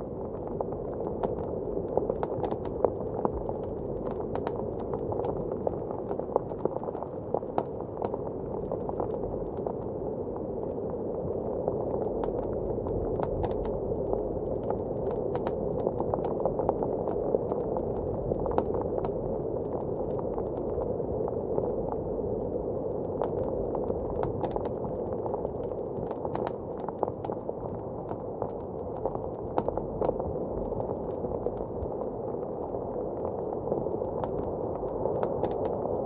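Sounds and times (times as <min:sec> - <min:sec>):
wood fire crackling and popping: 0:00.4 - 0:09.8, 0:11.8 - 0:21.1, 0:23.0 - 0:36.0.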